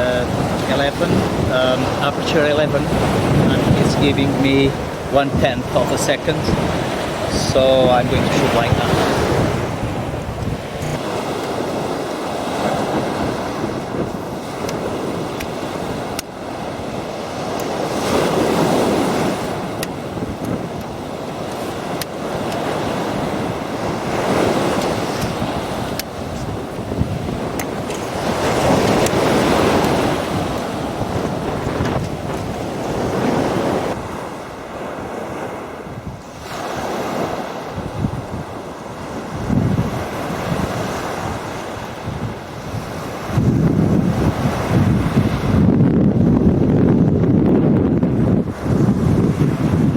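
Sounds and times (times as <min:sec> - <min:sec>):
waves breaking on beach: 0:00.0 - 0:49.9
wind buffeting microphone: 0:00.0 - 0:49.9.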